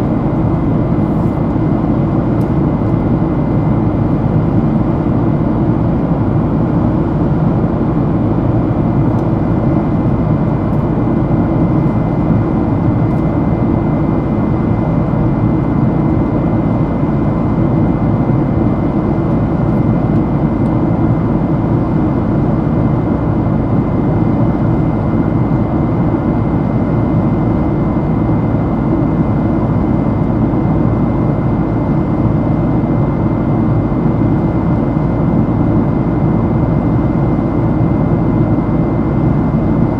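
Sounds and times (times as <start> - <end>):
jet engine cabin drone: 0.0 - 39.9.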